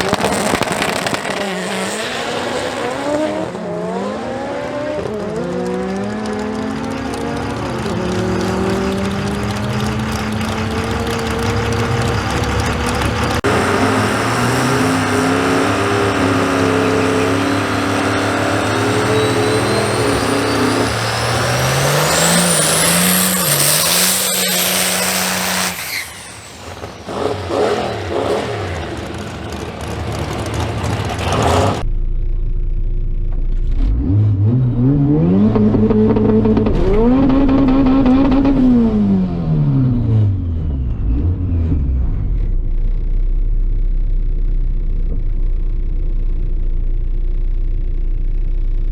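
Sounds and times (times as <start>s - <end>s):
racing cars accelerating hard: 0.0s - 31.8s, 33.8s - 42.2s
engine revving up: 0.0s - 31.9s, 33.6s - 43.1s.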